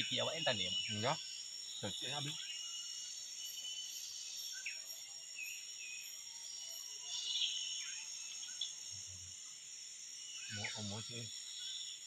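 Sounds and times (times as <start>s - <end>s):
bird calls: 0.0s - 9.3s, 10.3s - 12.0s
faint pulsing chirp: 0.0s - 12.0s
insect drone: 0.0s - 12.0s.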